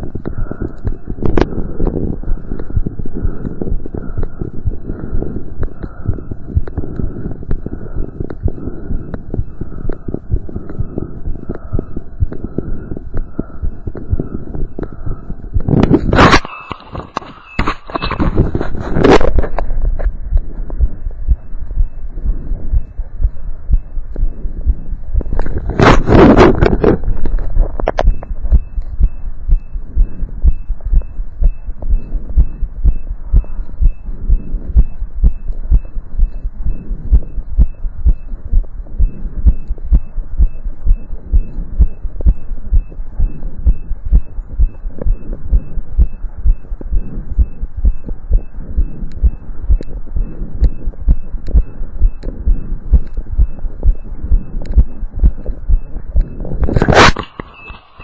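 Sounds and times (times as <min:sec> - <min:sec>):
fast heartbeat through stethoscope: 0:00.0 - 0:58.0
low hum: 0:00.0 - 0:58.0.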